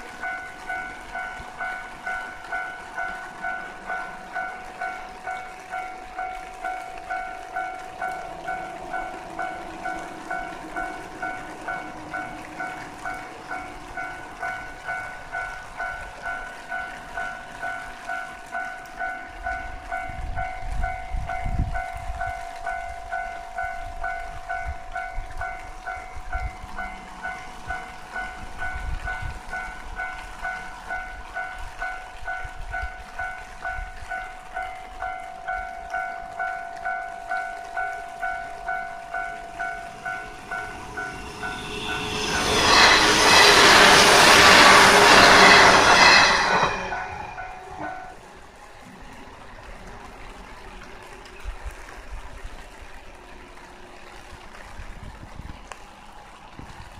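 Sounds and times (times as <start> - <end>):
level crossing warning bell: 0.0 - 48.3
train rumbling: 0.0 - 51.4.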